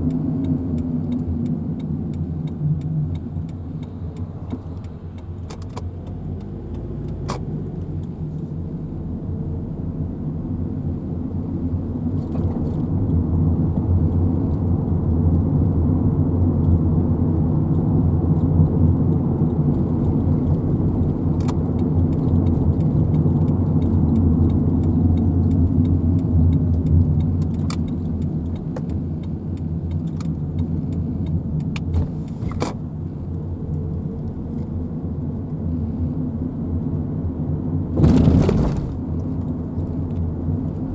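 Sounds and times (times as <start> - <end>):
vehicle engine and road rumble: 0.0 - 40.9.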